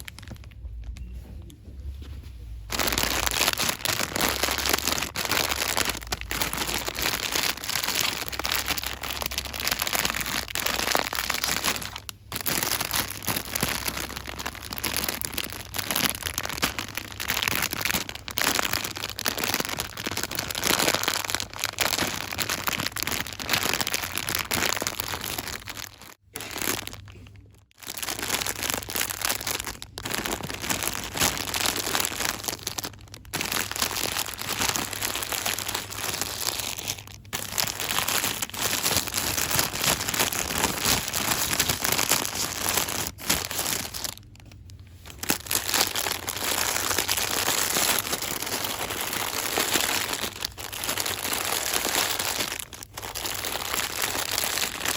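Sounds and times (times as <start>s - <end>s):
packaging crinkling and rustling: 0.0s - 54.9s.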